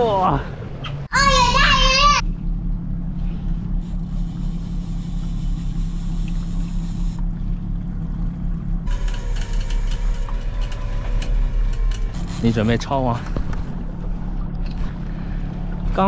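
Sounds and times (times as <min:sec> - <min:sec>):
outboard motor droning: 0:00.0 - 0:16.0.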